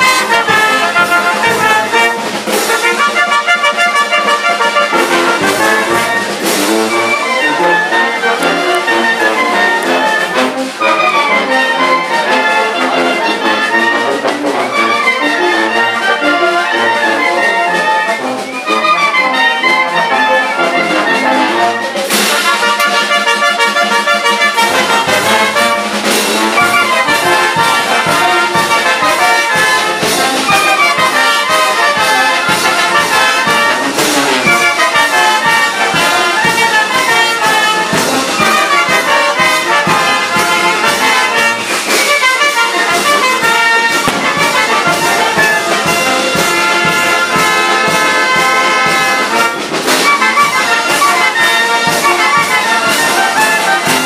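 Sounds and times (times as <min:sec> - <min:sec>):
brass band playing dance music: 0:00.0 - 0:54.0.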